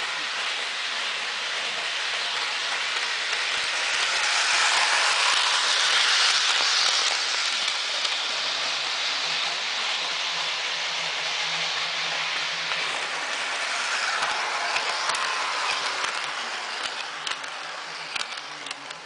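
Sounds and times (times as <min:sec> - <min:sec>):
model train whirring rattle: 0:00.0 - 0:19.0.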